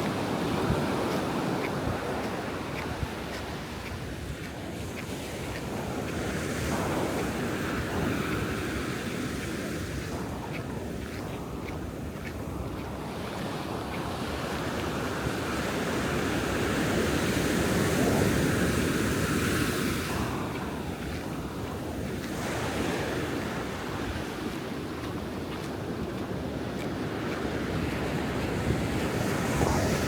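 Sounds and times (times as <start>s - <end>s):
ocean surf breaking on beach: 0.0s - 30.0s.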